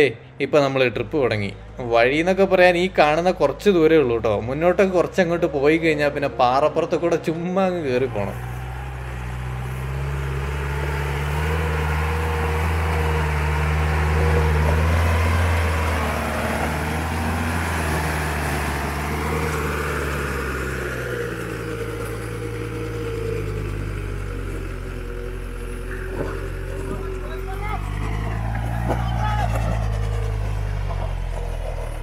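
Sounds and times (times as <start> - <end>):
jeep engine labouring: 0.0 - 32.0.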